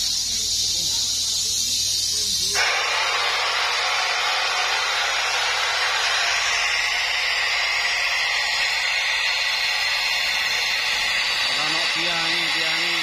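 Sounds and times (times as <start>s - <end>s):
filtered test noise over loudspeakers: 0.0s - 13.0s.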